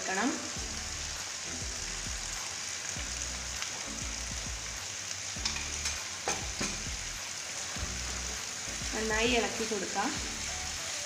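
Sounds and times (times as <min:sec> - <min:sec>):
chicken frying in a pan: 0:00.0 - 0:11.0.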